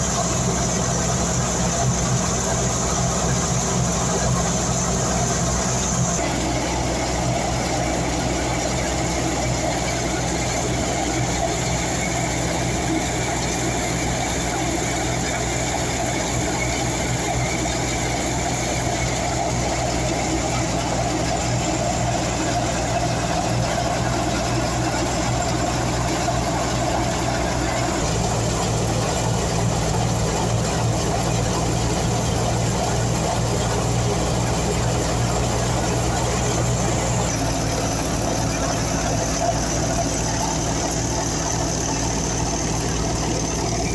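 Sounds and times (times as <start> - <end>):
threshing drum whirring: 0.0 - 43.9
threshing machine engine drone: 0.0 - 43.9.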